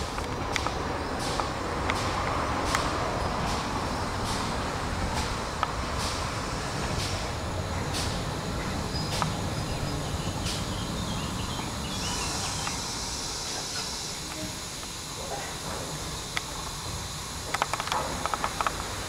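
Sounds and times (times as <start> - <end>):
steam hissing: 0.0 - 19.0
steam locomotive exhaust beats: 0.0 - 19.0
train low rumble: 0.0 - 19.0.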